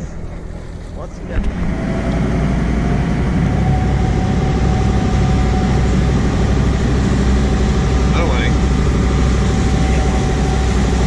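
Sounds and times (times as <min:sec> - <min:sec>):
boat engine rumbling: 0:00.0 - 0:11.0
faint engine whine: 0:00.0 - 0:11.0.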